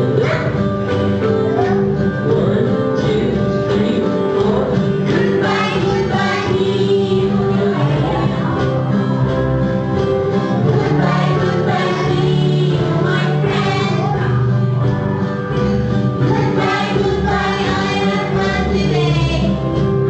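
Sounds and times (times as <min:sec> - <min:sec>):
song with singing: 0:00.0 - 0:20.0.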